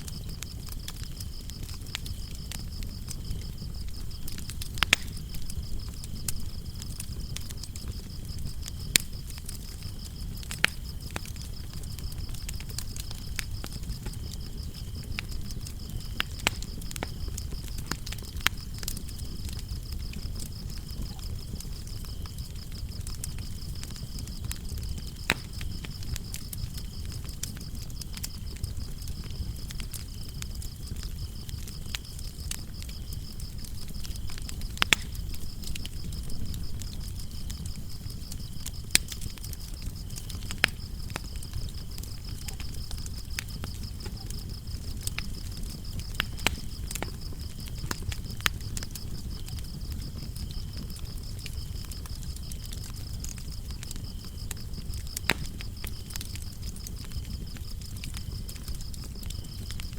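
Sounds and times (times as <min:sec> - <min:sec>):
crickets chirping: 0:00.0 - 0:59.9
fire crackling and popping: 0:00.0 - 0:59.9.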